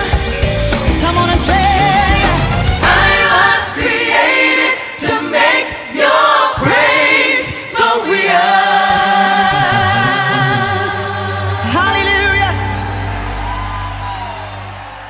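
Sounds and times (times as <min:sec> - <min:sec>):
choir singing: 0:01.1 - 0:15.0.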